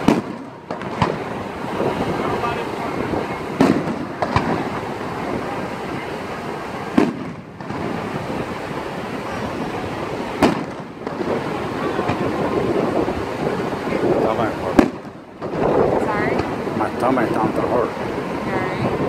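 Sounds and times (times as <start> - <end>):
fireworks booming: 0.0 - 19.0
steady background noise: 0.0 - 19.0.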